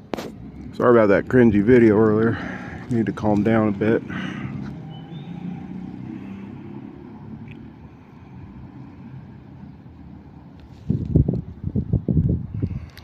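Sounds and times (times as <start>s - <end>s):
vehicle motor rumbling: 0.0s - 13.0s.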